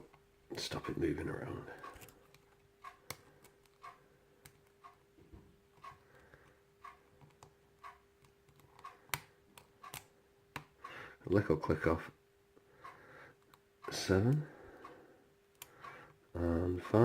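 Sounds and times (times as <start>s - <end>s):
soft regular ticking: 0.0s - 11.2s, 12.6s - 17.0s
faint steady hum: 0.0s - 17.0s.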